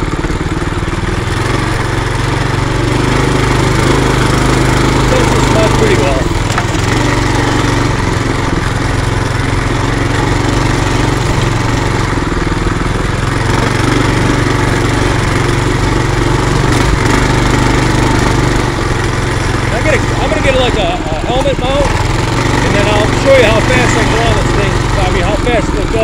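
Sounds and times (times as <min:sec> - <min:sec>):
mini bike engine running: 0:00.0 - 0:26.0.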